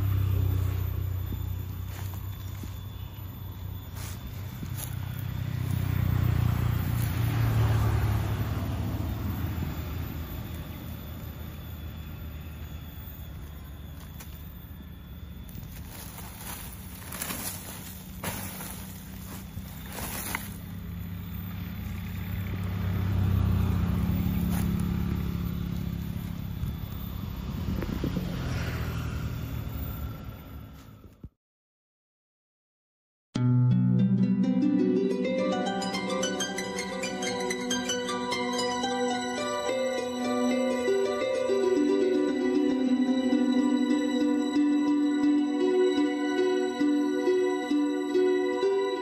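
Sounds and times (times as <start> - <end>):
vehicle engine passing by: 0.0 - 31.2, 34.9 - 49.0.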